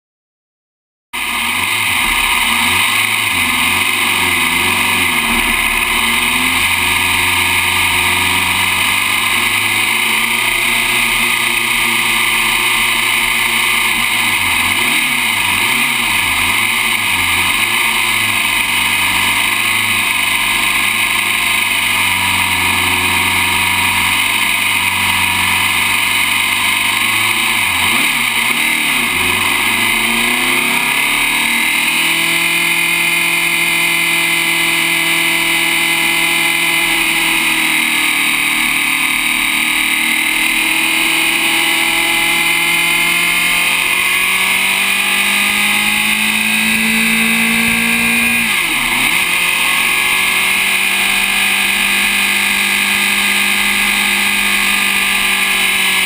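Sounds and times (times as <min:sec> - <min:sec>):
race car engine revving: 0:01.2 - 0:56.0.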